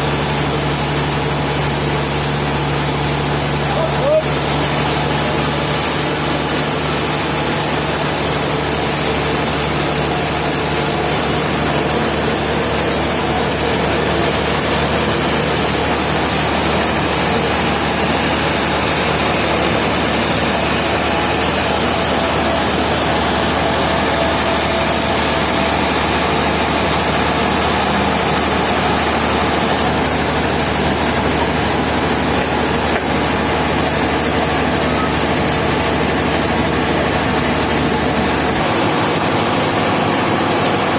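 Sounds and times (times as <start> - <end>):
engine humming steadily: 0.0 - 40.9.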